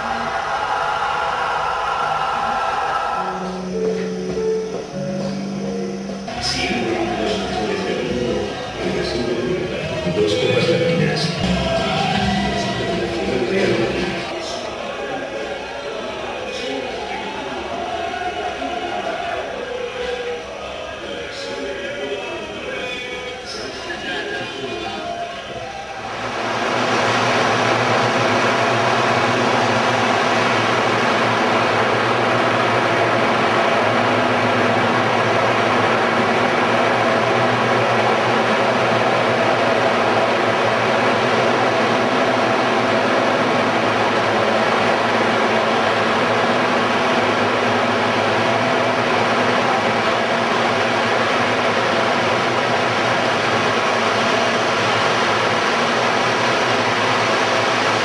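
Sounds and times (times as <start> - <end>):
steady hum and hiss: 0.0 - 58.0.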